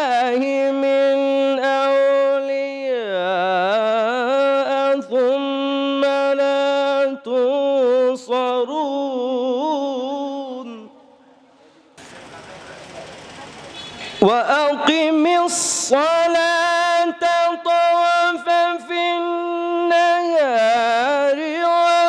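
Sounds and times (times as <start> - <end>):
man reciting melodically: 0.0 - 11.2, 13.9 - 22.0.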